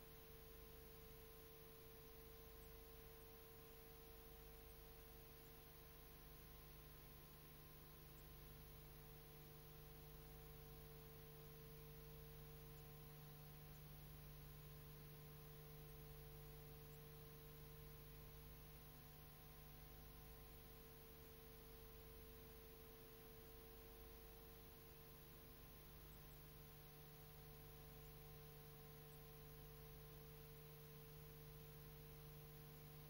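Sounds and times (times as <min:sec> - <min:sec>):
faint hiss and hum: 0:00.0 - 0:33.0.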